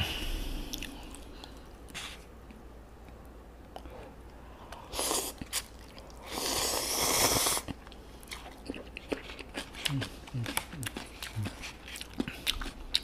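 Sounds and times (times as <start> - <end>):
quiet chewing: 0.6 - 6.3, 7.3 - 13.0.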